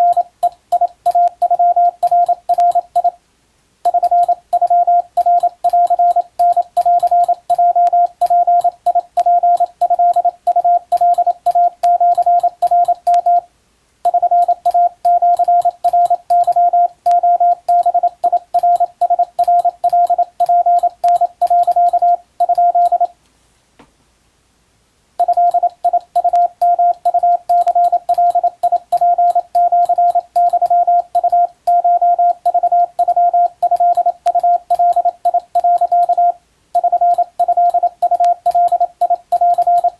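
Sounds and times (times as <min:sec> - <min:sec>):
keying clicks: 0:00.0 - 0:03.1, 0:03.9 - 0:13.4, 0:14.1 - 0:23.1, 0:25.2 - 0:39.9
morse code tone: 0:00.0 - 0:03.2, 0:03.9 - 0:13.5, 0:14.1 - 0:23.1, 0:25.2 - 0:39.9.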